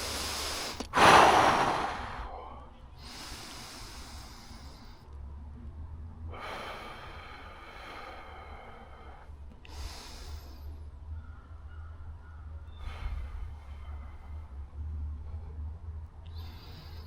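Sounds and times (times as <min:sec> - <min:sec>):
person breathing slowly: 0:00.0 - 0:05.2, 0:06.2 - 0:11.2, 0:12.3 - 0:17.0
steady low rumble: 0:00.0 - 0:17.0.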